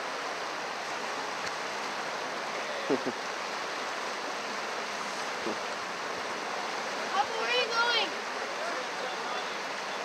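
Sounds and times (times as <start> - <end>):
water rushing through rapids: 0.0 - 10.0.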